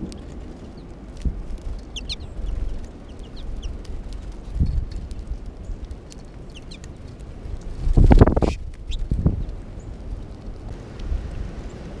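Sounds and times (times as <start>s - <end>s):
songbirds chirping: 0.0s - 10.7s
wind rumble on microphone: 0.0s - 12.0s.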